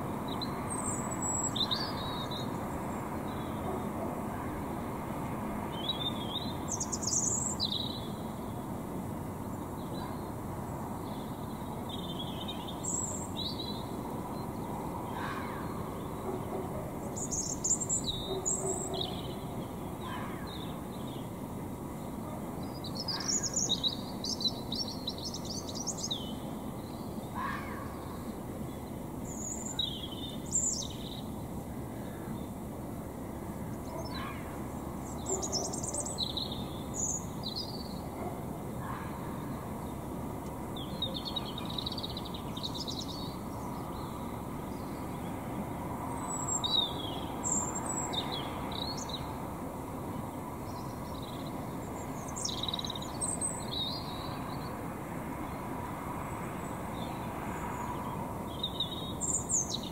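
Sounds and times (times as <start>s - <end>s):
birds singing: 0.0s - 4.6s, 5.7s - 8.8s, 9.4s - 21.4s, 22.0s - 32.6s, 33.4s - 40.1s, 40.7s - 49.4s, 50.2s - 55.6s, 56.2s - 59.9s
distant traffic hum: 0.0s - 59.9s.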